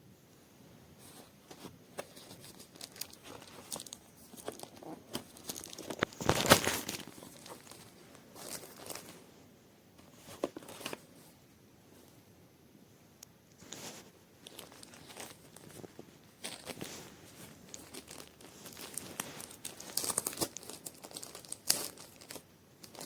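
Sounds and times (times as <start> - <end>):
rustling: 0.7 - 12.2, 13.5 - 23.0
handling clicks and crinkling: 1.0 - 9.2, 10.0 - 11.2, 13.2 - 23.0.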